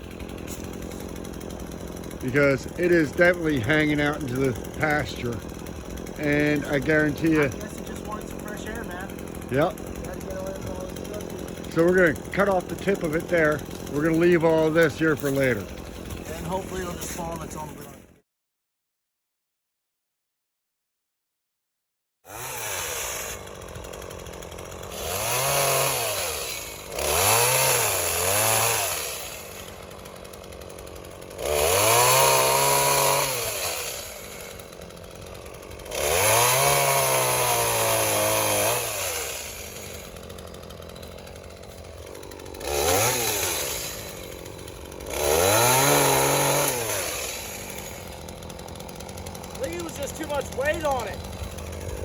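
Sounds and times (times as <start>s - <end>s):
chainsaw revving: 0.0s - 18.2s, 22.3s - 52.0s.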